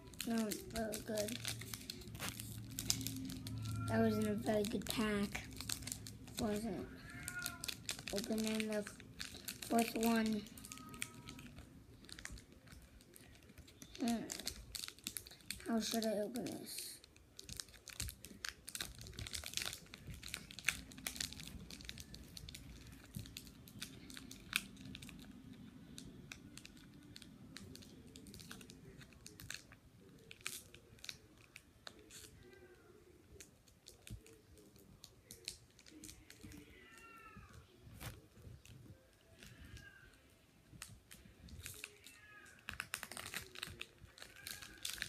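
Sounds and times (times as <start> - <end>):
foil wrapper crinkling and tearing: 0.0 - 32.7, 33.3 - 37.4, 38.0 - 40.2, 40.8 - 45.0.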